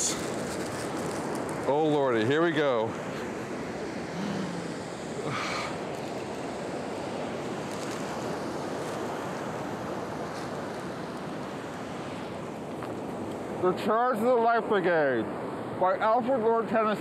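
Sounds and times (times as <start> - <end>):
ocean surf: 0.0 - 17.0.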